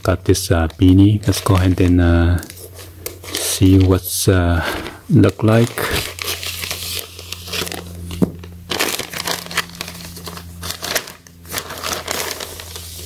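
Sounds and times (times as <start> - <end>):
low steady hum: 0.0 - 13.0
plastic mailer crinkling: 0.0 - 13.0.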